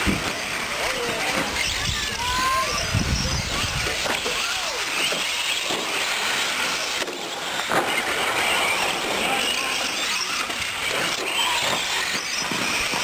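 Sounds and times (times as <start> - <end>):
rc truck motors whining: 0.0 - 13.0.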